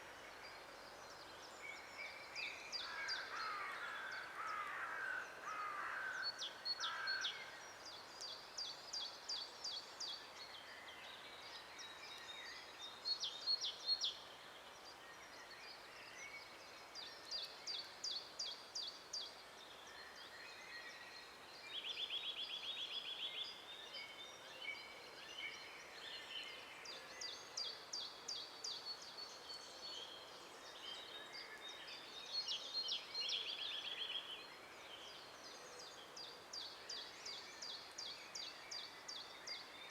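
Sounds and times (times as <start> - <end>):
faint steady hiss: 0.0 - 39.9
songbirds singing: 0.0 - 39.9.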